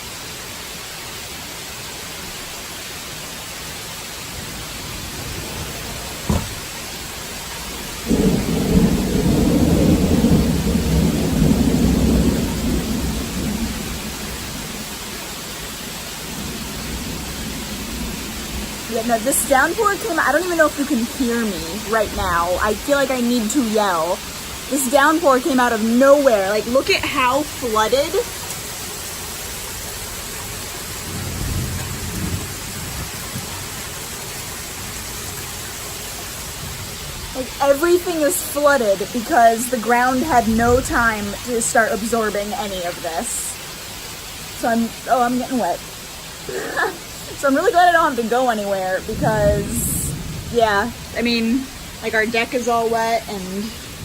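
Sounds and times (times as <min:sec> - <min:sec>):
heavy rain hissing: 0:00.0 - 0:54.0
thunder rumbling: 0:04.3 - 0:28.7, 0:29.6 - 0:43.7, 0:44.4 - 0:54.0.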